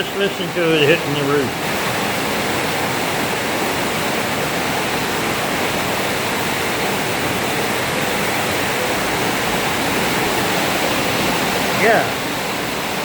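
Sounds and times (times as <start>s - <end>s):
heavy rain on a roof: 0.0s - 13.0s.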